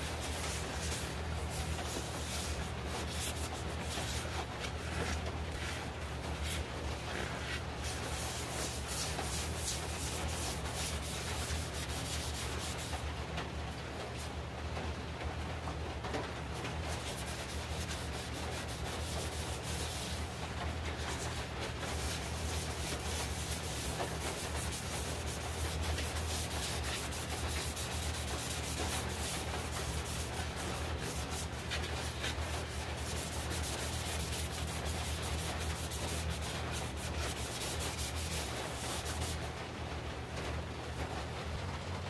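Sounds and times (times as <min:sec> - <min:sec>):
cloth pad rubbing wood: 0:00.0 - 0:13.0, 0:16.9 - 0:39.5.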